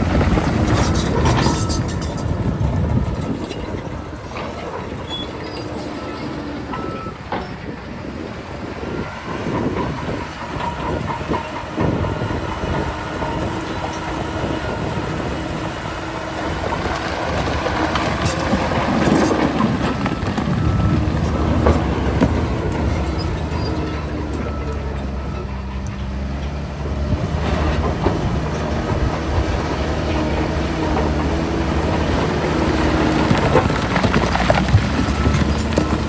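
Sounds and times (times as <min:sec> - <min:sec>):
heavy machinery engines: 0:00.0 - 0:36.0.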